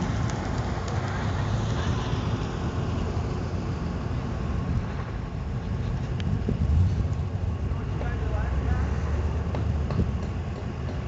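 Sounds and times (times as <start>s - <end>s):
distant car engine rumble: 0.0s - 11.0s.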